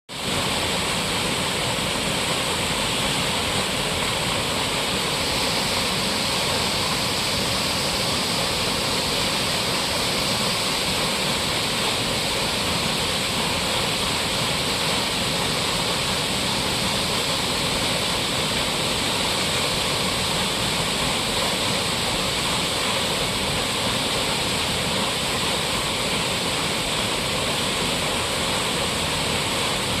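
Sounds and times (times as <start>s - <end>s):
waterfall roaring: 0.1s - 30.0s.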